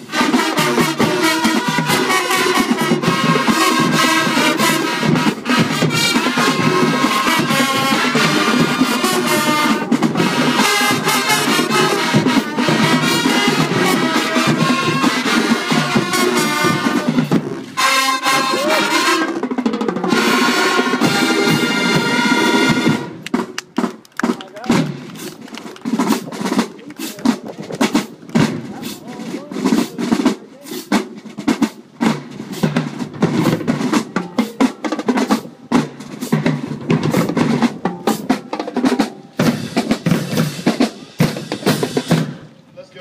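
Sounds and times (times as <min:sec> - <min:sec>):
trumpets and trombones: 0:00.0 - 0:23.5, 0:24.6 - 0:42.5
drumline: 0:00.0 - 0:43.0
marching band playing: 0:00.0 - 0:43.0.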